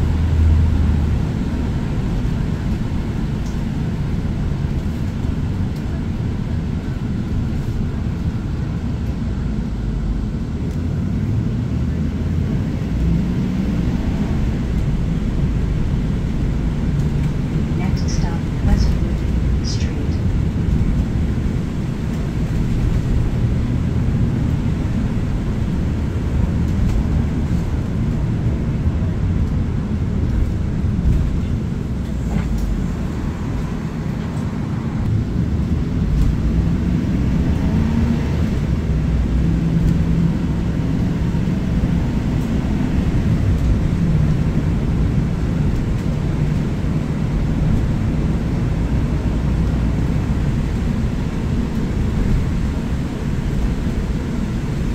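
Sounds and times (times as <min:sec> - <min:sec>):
bus engine and road rumble: 0:00.0 - 0:54.9.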